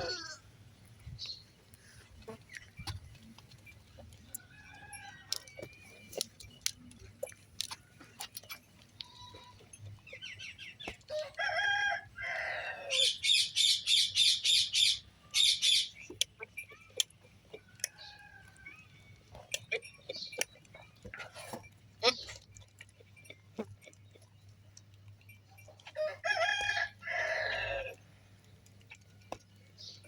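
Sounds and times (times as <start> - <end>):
farm animal calls: 0.0 - 0.6, 1.2 - 28.3.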